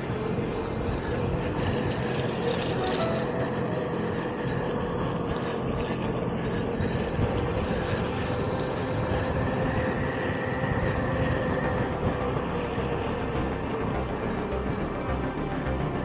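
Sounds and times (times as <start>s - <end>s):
electric motor whine: 0.0s - 16.0s
wind noise: 0.0s - 16.0s.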